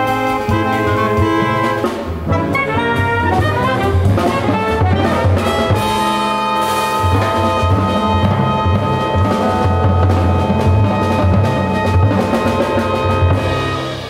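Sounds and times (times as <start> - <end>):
bass and drums keeping time: 0.0 - 14.0
jazz horns playing: 0.0 - 14.0.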